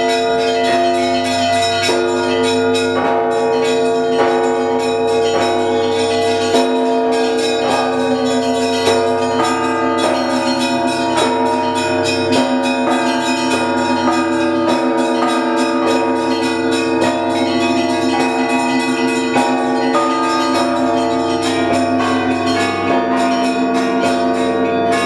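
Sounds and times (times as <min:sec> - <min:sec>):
hum of large bells: 0:00.0 - 0:25.0
rapid small church bells: 0:00.0 - 0:25.0.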